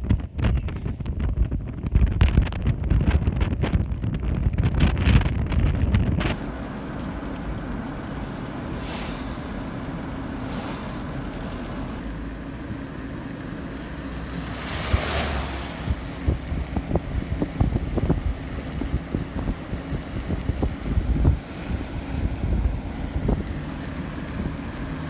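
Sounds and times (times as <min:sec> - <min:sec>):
wind buffeting microphone: 0:00.0 - 0:12.0, 0:14.2 - 0:25.0.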